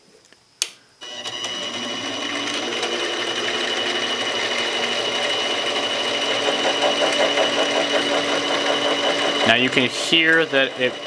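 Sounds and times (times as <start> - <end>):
lathe motor whining: 1.0 - 11.0.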